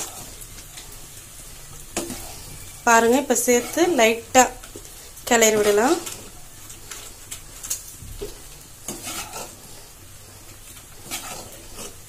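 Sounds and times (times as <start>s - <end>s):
faint sizzle: 0.0s - 12.0s
spatula scraping a pan: 0.0s - 12.0s.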